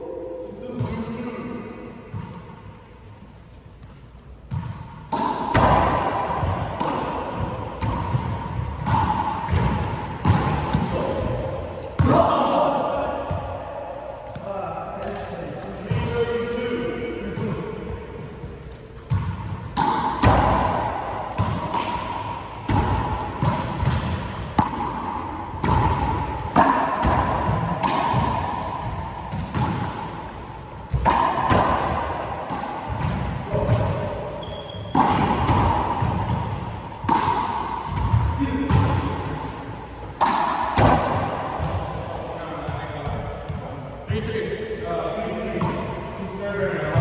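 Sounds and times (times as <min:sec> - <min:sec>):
rubber ball hits echoing in court: 0:04.4 - 0:16.2, 0:17.2 - 0:43.7.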